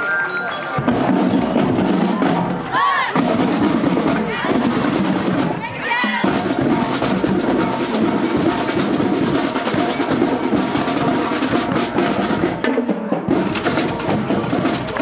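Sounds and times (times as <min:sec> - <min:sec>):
marching band: 0:00.0 - 0:15.0
snare and bass drums: 0:00.8 - 0:15.0.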